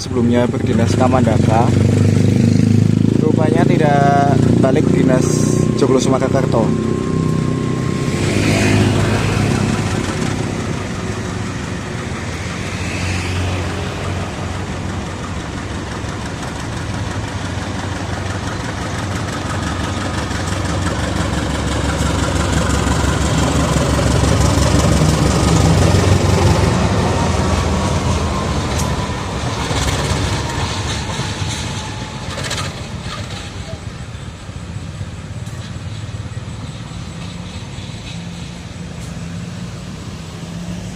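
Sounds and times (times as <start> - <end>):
diesel locomotive engine rumble: 0.0 - 40.9
rail noise: 0.0 - 40.9.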